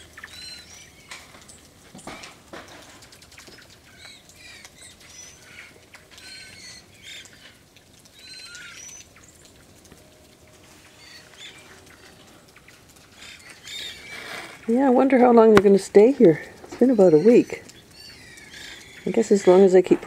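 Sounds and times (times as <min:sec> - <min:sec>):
thrushes trilling and warbling: 0:00.0 - 0:20.0.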